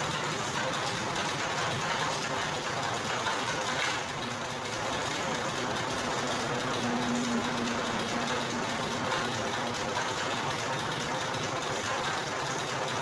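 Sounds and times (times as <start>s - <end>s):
crushing press mechanical clatter: 0.0s - 13.0s.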